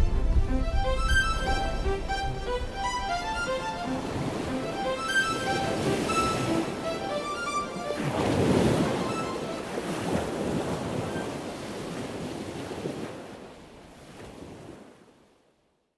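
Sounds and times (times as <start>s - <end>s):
ocean surf washing on shore: 0.0s - 15.3s.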